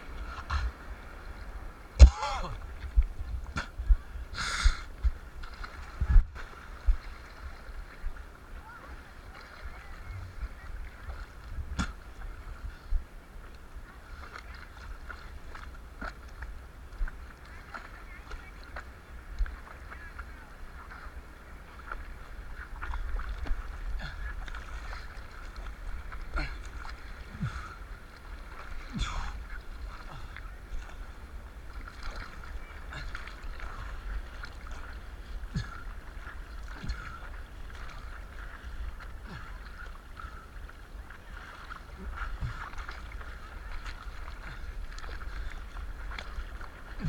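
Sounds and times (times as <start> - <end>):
ocean water sloshing and splashing: 0.0 - 47.0
wind rumble on microphone: 0.0 - 47.0.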